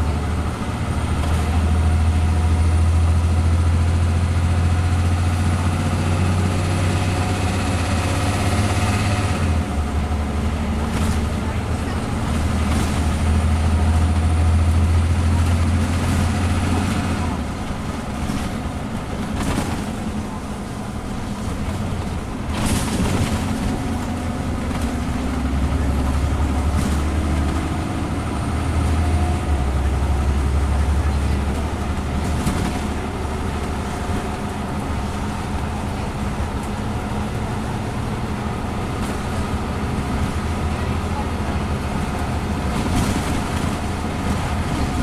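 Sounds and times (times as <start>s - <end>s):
bus engine drone: 0.0s - 45.0s
road noise: 0.0s - 45.0s.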